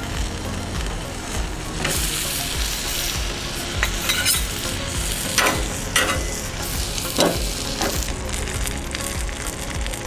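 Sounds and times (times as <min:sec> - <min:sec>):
steak sizzling on griddle: 0:00.0 - 0:10.0.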